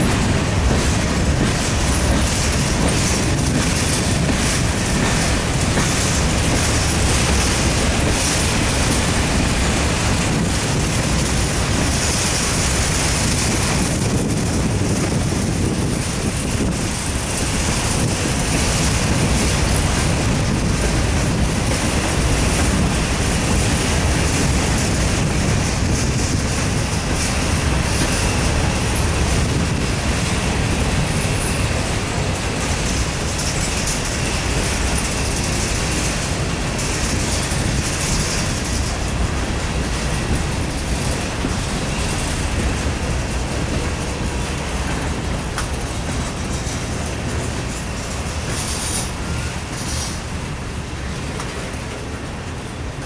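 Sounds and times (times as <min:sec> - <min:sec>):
train wheels rolling over rails: 0:00.0 - 0:53.0.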